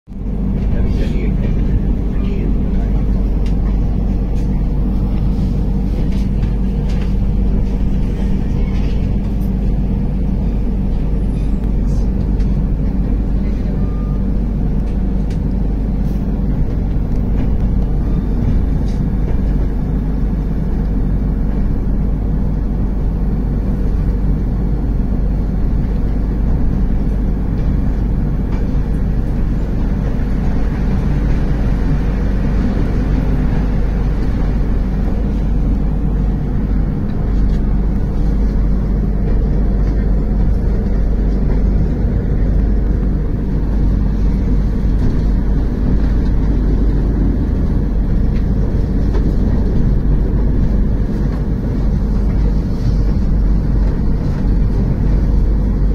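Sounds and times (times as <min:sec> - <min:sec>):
train wheels rumbling on rails: 0:00.1 - 0:55.9.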